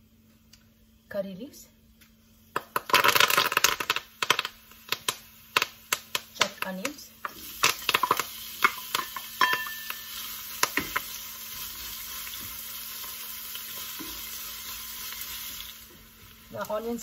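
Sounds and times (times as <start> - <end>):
onions sizzling in hot oil: 2.4 - 17.0.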